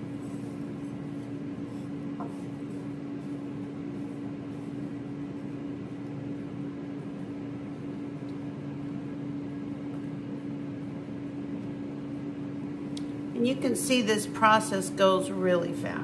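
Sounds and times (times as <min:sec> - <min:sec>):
air fryer fan humming: 0:00.0 - 0:16.0.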